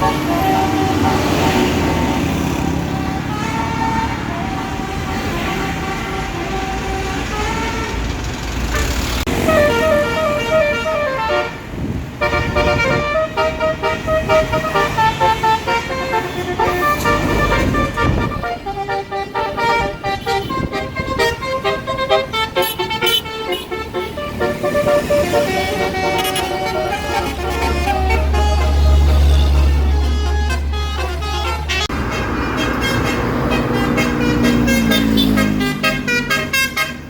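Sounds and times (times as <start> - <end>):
bus engine rumbling: 0.0 - 37.0
multi-tone bus horn tune: 0.0 - 37.0.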